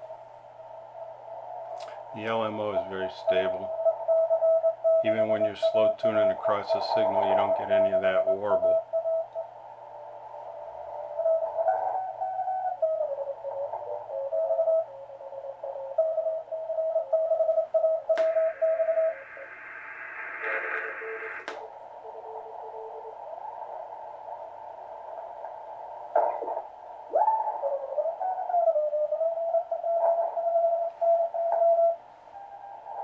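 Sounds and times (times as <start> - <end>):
radio hiss: 0.0 - 33.0.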